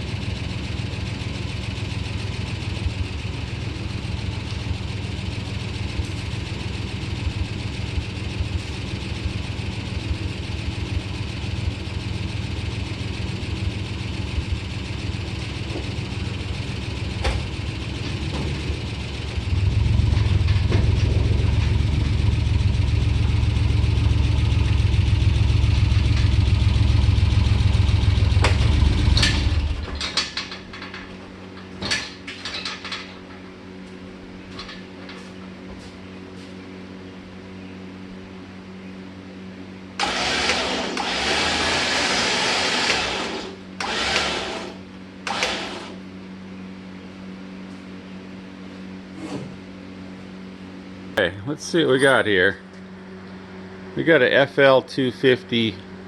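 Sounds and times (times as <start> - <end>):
engine idling: 0.0 - 47.9.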